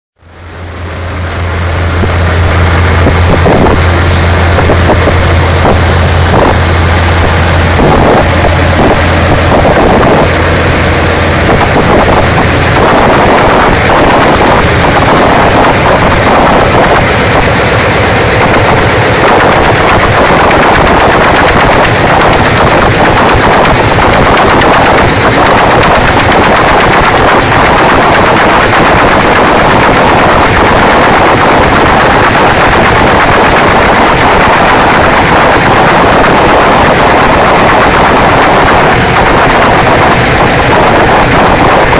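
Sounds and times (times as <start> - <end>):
diesel engine running: 0.2 - 41.9.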